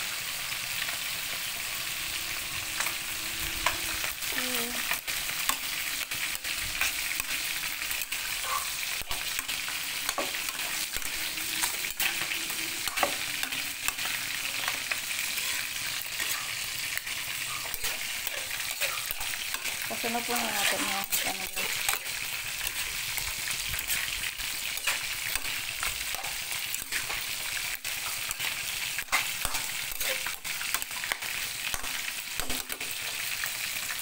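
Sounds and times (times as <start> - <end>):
vegetables sizzling in a wok: 0.0 - 34.0
spatula scraping a pan: 2.4 - 34.0.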